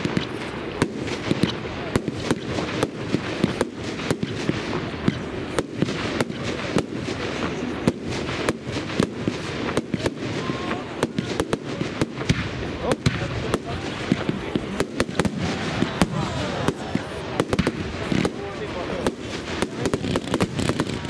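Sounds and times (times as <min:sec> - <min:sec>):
dense noisy background: 0:00.0 - 0:21.0
fireworks bangs and cracks: 0:00.0 - 0:21.0.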